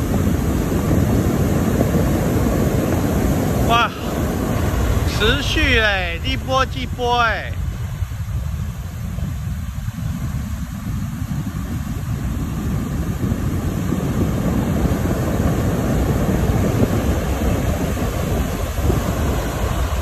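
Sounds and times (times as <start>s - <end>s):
surf breaking on stony beach: 0.0s - 20.0s
wind buffeting microphone: 0.0s - 20.0s.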